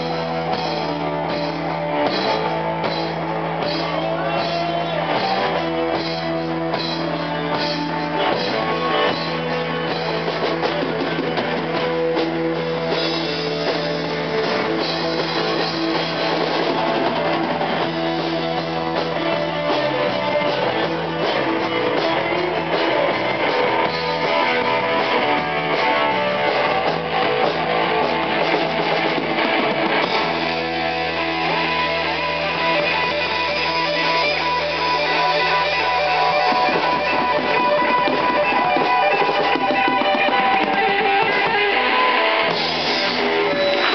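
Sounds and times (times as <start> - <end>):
drum kit: 0.0 - 43.9
strummed guitar: 0.0 - 43.9.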